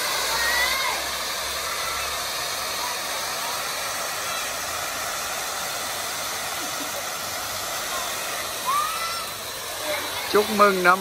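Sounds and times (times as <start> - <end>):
firework fountain hissing: 0.0 - 11.0.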